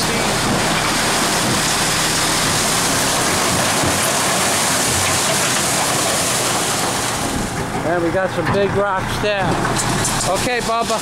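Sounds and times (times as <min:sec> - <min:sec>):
rock pouring from dump truck bed: 0:00.0 - 0:07.9, 0:09.6 - 0:11.0.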